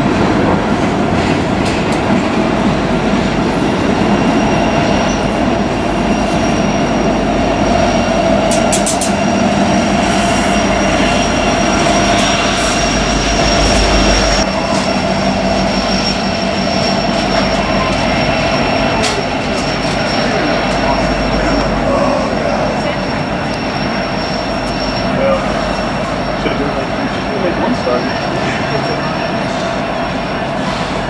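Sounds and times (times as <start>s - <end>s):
diesel locomotives running: 0.0s - 31.0s
train wheels rumbling on rails: 0.0s - 31.0s
high wheel squeal: 3.9s - 31.0s.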